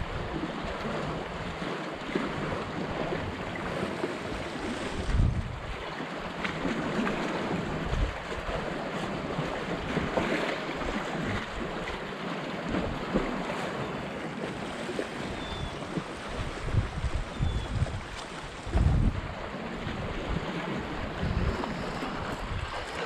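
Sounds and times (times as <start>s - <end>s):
wind buffeting microphone: 0.0s - 11.9s, 14.6s - 23.0s
waves washing against rocks: 0.0s - 23.0s.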